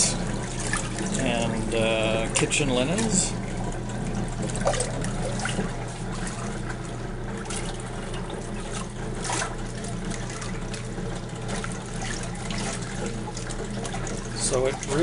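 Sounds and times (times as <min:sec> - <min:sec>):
washing machine hum: 0:00.0 - 0:15.0
water sloshing in washer tub: 0:00.0 - 0:15.0.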